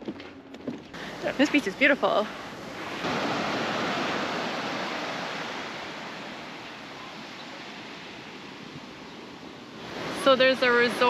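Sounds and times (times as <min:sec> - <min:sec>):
small waves washing up beach: 0:01.0 - 0:11.0.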